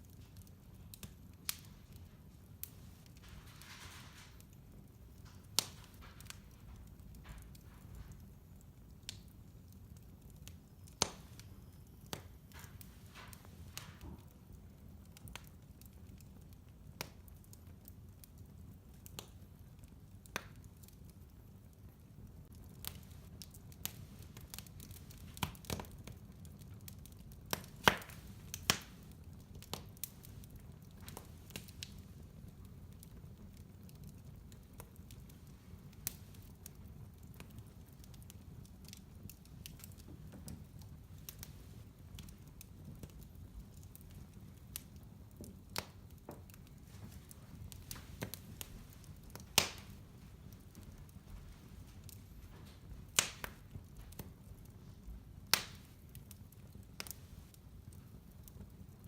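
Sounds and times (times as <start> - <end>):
low fire rumble: 0.0 - 59.0
wood fire crackling and popping: 0.0 - 59.0.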